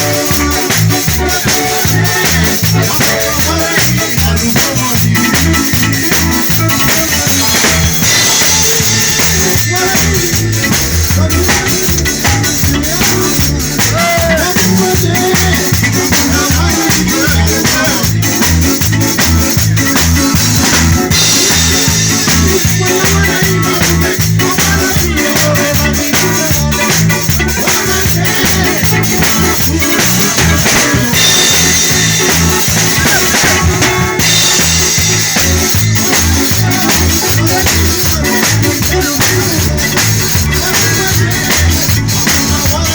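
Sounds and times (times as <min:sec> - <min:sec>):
bass line: 0:00.0 - 0:42.9
drum kit beat: 0:00.0 - 0:42.9
live band music: 0:00.0 - 0:42.9
shakers: 0:00.0 - 0:42.9.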